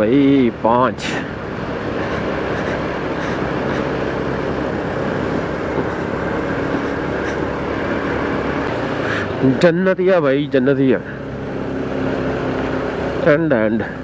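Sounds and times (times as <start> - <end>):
motorcycle engine hum: 0.0 - 14.0
wind and road noise: 0.0 - 14.0.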